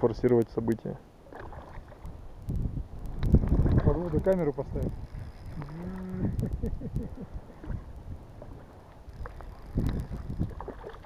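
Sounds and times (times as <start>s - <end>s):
wind buffeting microphone: 1.5s - 11.0s.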